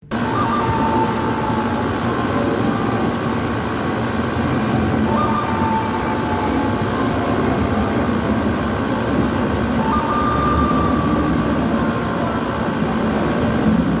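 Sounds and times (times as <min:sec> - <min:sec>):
air conditioner whirring: 0:00.0 - 0:14.0
faint high whine: 0:00.0 - 0:14.0.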